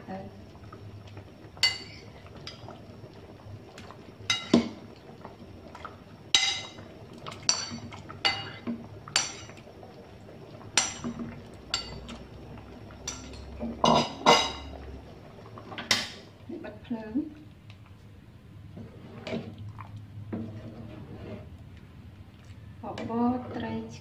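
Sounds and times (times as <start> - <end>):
porridge bubbling softly: 0.0 - 24.0.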